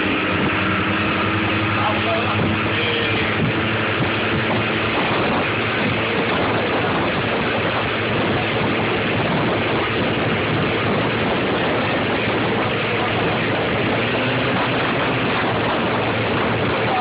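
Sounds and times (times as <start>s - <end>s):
boat engine running: 0.0s - 17.0s
rushing water: 0.0s - 17.0s.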